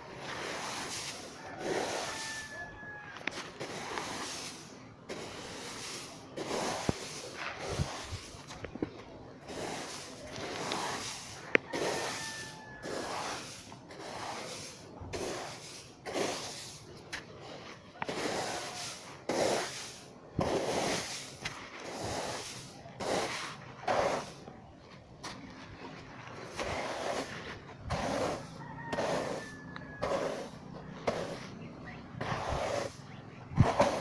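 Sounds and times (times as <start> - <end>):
rice grains rustling: 0.1 - 31.6.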